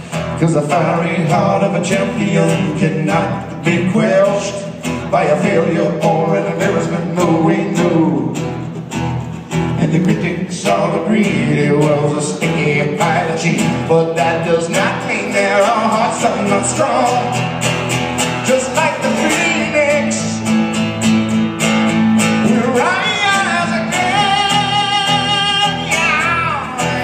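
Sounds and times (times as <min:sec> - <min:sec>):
man singing: 0:00.0 - 0:08.5, 0:09.7 - 0:17.5, 0:18.4 - 0:20.5, 0:22.2 - 0:27.0
acoustic guitar: 0:00.0 - 0:27.0.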